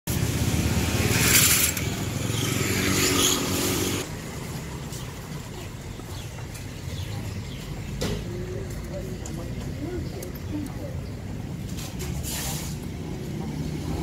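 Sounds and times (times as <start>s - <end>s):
street traffic: 0.0s - 14.0s
motorcycle engine rumbling: 0.1s - 14.0s.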